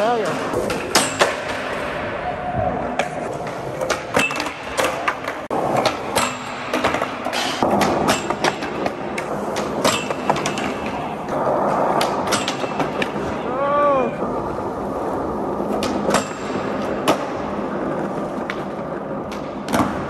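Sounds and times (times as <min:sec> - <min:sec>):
skateboard clacks: 0:00.0 - 0:02.2, 0:02.8 - 0:20.0
skateboard wheels rolling on concrete: 0:00.0 - 0:20.0.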